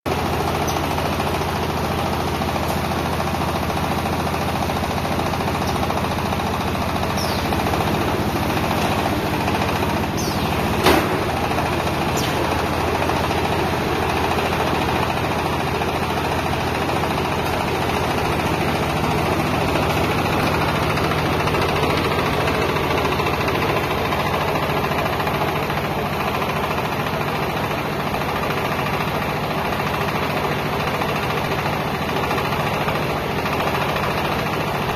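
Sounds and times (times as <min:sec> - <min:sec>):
heavy machinery humming: 0:00.1 - 0:34.9.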